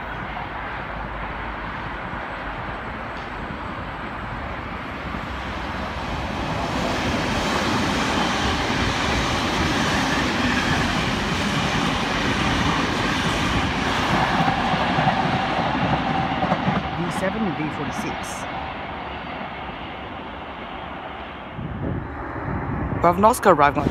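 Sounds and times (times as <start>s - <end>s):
electric train rumbling: 0.0s - 23.9s.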